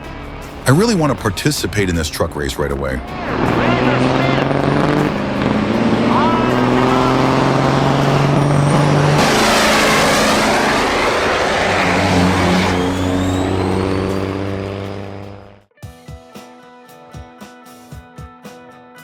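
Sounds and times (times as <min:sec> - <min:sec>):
truck engines running hard: 0:00.0 - 0:15.6.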